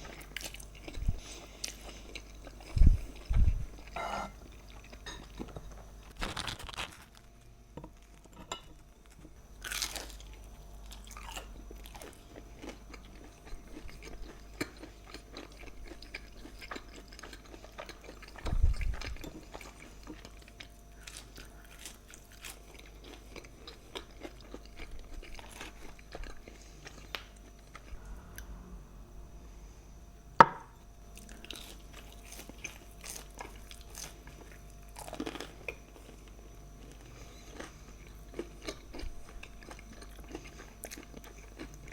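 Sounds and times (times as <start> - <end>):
person chewing crunchy food: 0.0 - 8.3, 9.0 - 28.8, 30.6 - 41.9.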